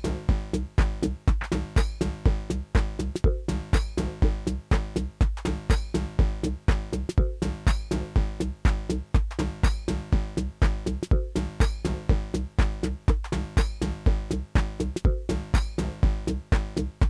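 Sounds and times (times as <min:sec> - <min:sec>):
kick drum beat: 0:00.0 - 0:17.0
percussion: 0:00.0 - 0:17.0
synth bassline: 0:00.0 - 0:17.0.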